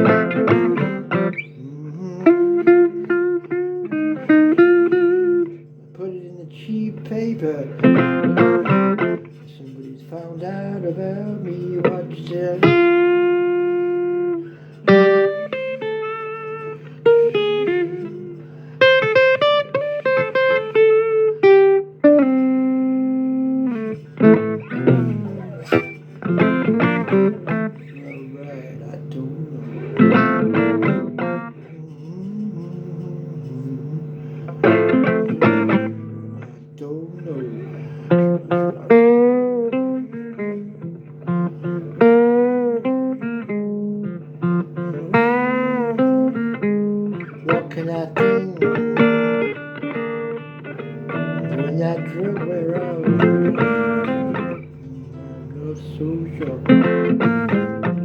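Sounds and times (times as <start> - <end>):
blues guitar plucked notes: 0.0 - 58.0.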